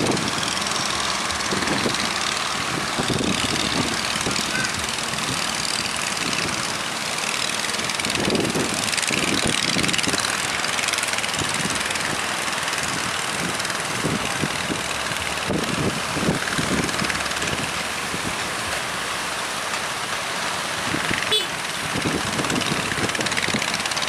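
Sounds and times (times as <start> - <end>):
strong wind: 0.0 - 6.8, 7.9 - 10.4, 11.3 - 18.8, 20.7 - 24.0
boat engine running: 0.0 - 24.0
waves: 0.0 - 24.0.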